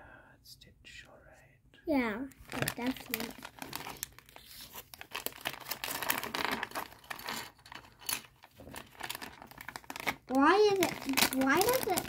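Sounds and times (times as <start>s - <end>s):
plastic foil bag crinkling: 2.3s - 12.0s.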